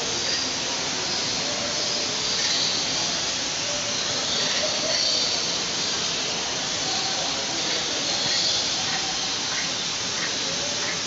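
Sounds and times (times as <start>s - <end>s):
rushing hiss: 0.0s - 11.0s.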